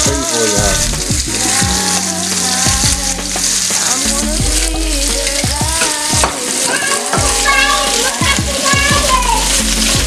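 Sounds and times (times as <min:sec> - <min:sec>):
food frying in grease: 0:00.0 - 0:10.0
music playing: 0:00.0 - 0:10.0.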